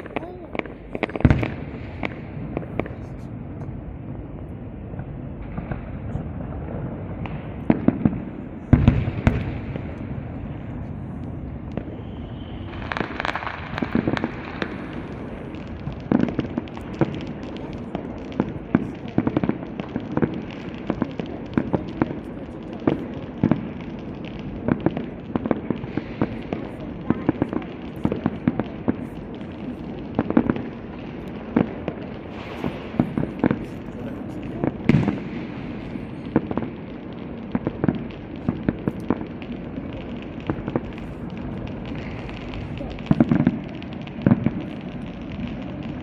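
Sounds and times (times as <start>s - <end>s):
fireworks bangs: 0.0s - 46.0s
heavy low firework boom: 0.0s - 46.0s
hissing firework crackle: 0.0s - 46.0s.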